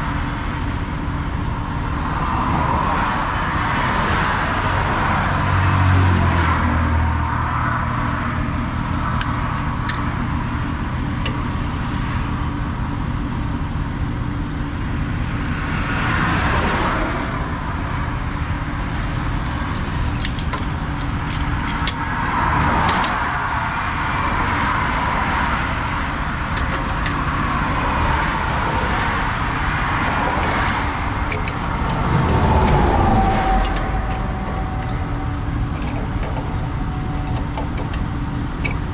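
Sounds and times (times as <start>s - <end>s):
highway traffic passing: 0.0s - 38.9s
low engine hum: 0.0s - 38.9s.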